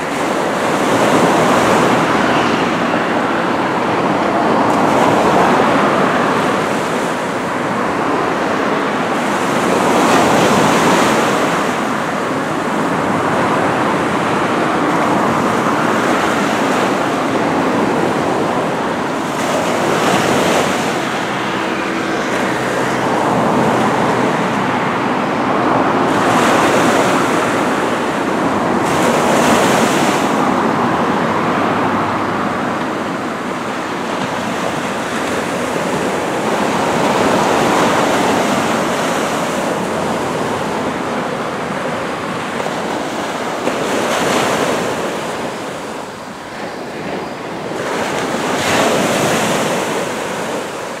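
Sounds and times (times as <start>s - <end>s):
waves washing up a sand beach: 0.0s - 51.0s.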